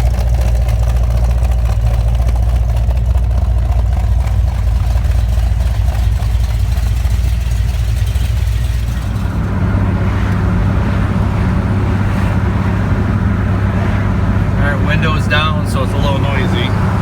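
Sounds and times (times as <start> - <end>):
engine deep rumble: 0.0 - 17.0.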